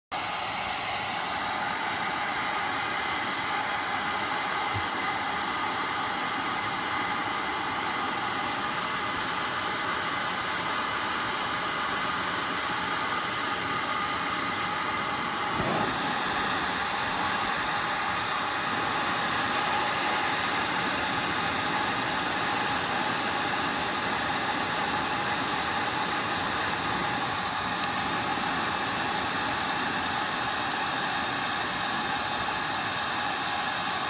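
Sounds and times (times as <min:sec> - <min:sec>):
hot-air blower whining: 0:00.1 - 0:34.0.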